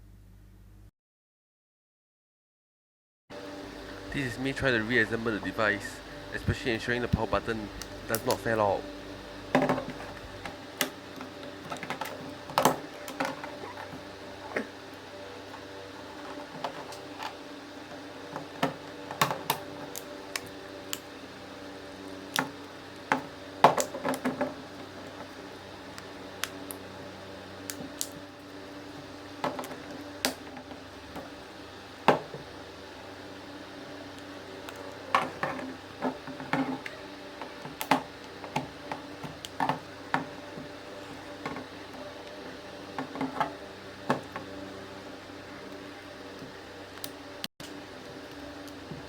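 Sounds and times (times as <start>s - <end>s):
steady low hum: 3.3s - 49.0s.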